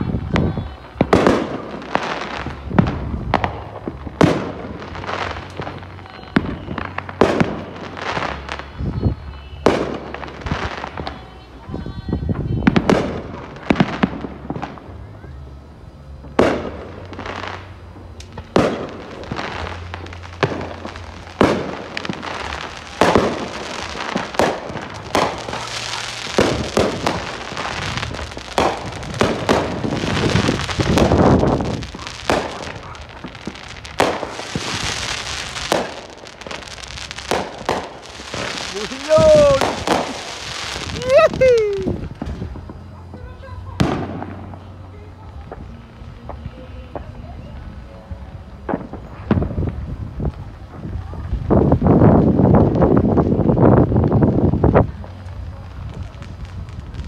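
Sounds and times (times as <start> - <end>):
fireworks bursting: 0.0 - 57.0
fireworks crackling: 0.0 - 57.0.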